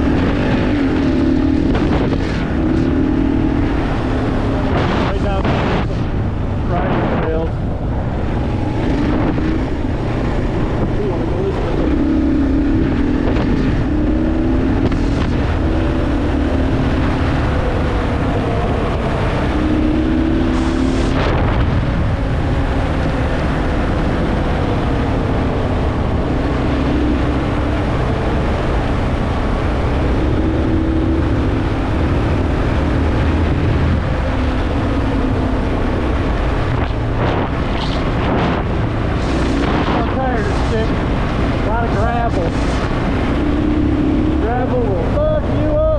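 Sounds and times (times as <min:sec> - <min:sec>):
motorcycle engine running: 0:00.0 - 0:45.8
wind rushing over microphone: 0:00.0 - 0:45.9.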